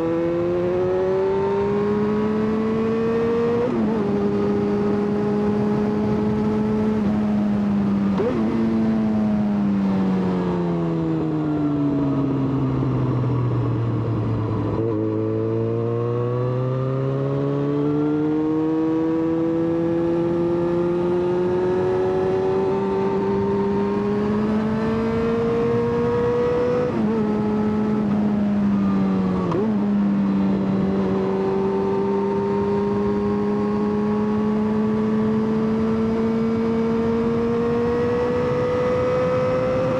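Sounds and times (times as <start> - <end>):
motorcycle engine revving: 0.0 - 11.2, 13.0 - 39.9.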